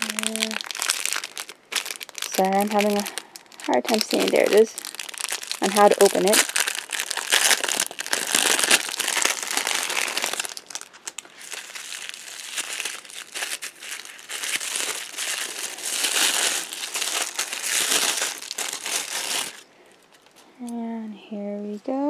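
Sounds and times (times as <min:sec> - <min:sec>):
plastic wrap crinkling: 0:00.0 - 0:20.4.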